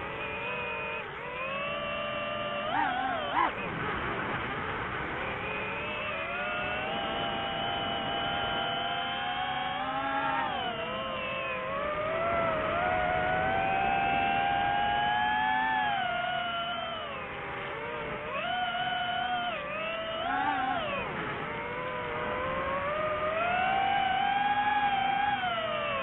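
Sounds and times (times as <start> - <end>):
drone propellers whining: 0.0 - 26.0.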